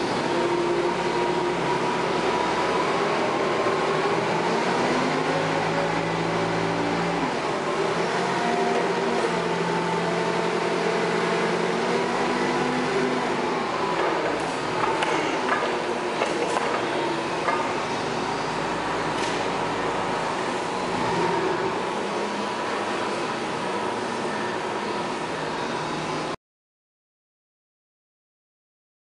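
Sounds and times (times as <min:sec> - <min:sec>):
forklift engine running: 0:00.0 - 0:26.3.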